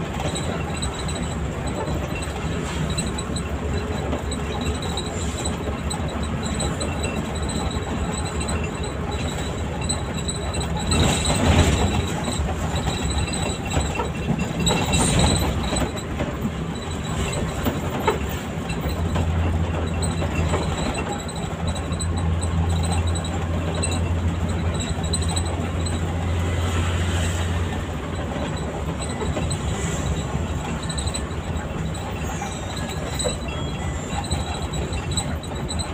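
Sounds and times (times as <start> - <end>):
bus body rattle: 0.0 - 35.9
bus engine drone: 0.0 - 35.9
road noise: 0.0 - 35.9.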